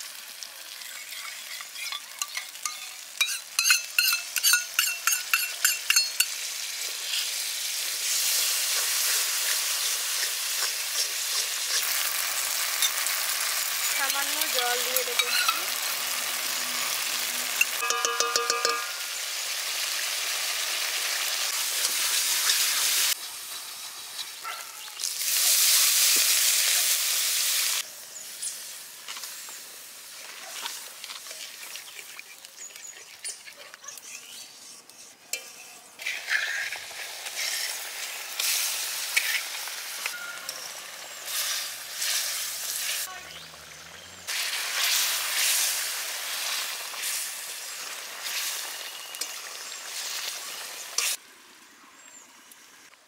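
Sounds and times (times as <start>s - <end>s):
curry sizzling and bubbling: 0.0s - 53.0s.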